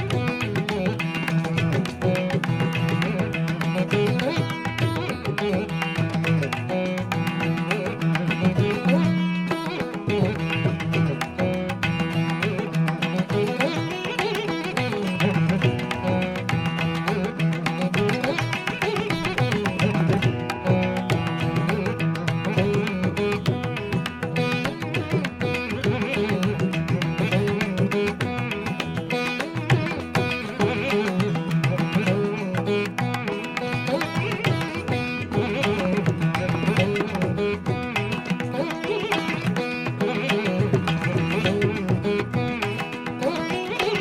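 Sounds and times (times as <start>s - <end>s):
instrumental music with beat: 0.0s - 44.0s.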